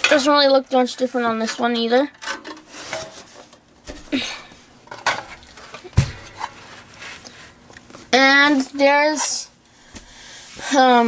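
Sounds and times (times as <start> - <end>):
rubbing and scraping on heaters: 0.0 - 9.6, 10.3 - 11.0.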